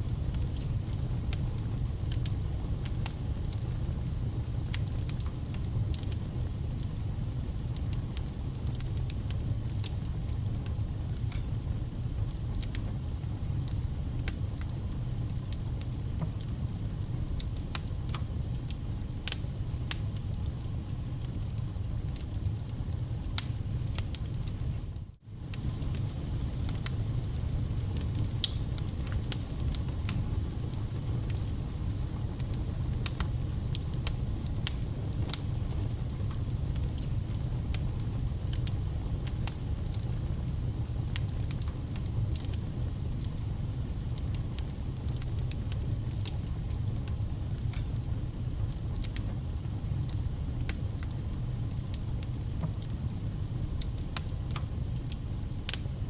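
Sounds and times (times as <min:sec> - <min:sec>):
crackles and pops of burning logs: 0:00.0 - 0:56.0
wood fire rumbling: 0:00.0 - 0:56.0.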